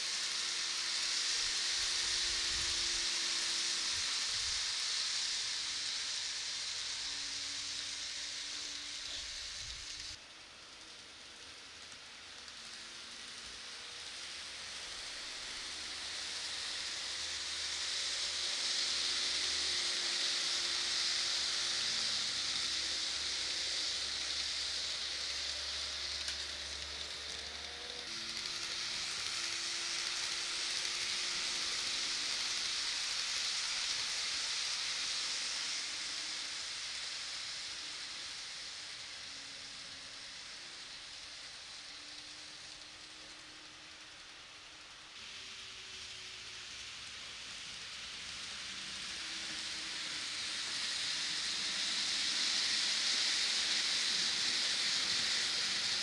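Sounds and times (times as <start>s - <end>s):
model train wheels hissing on rails: 0.0s - 56.0s.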